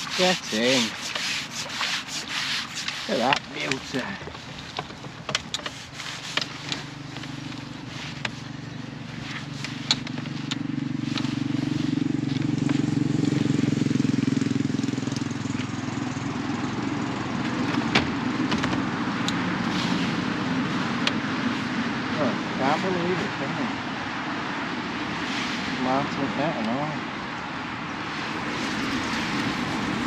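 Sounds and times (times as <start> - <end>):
motor vehicle engine humming: 0.0 - 30.0.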